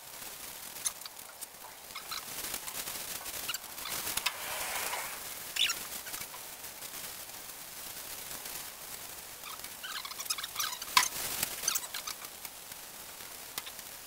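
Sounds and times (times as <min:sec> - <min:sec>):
meat sizzling on a hotplate: 0:00.0 - 0:14.0
plastic bag rustling: 0:00.0 - 0:14.0.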